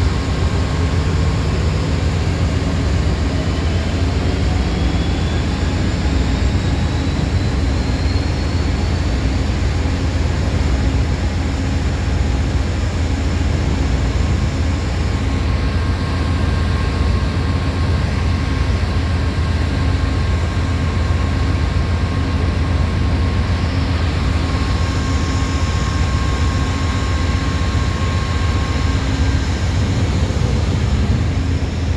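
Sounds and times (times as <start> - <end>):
locomotive engine drone: 0.0 - 31.9
thin steady whine: 0.0 - 31.9.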